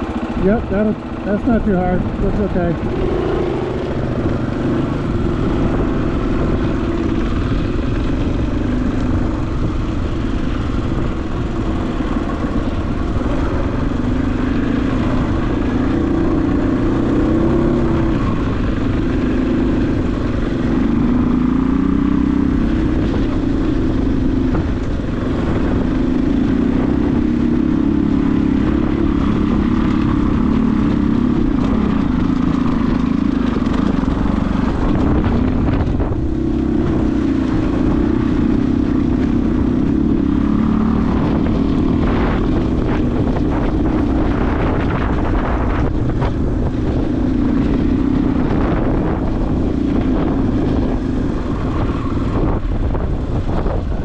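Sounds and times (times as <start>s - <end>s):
dirt bike engine revving: 0.0s - 53.8s.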